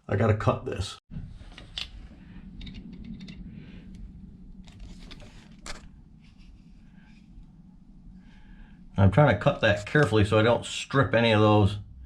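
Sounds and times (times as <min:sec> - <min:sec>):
low steady hum: 0:01.1 - 0:12.0.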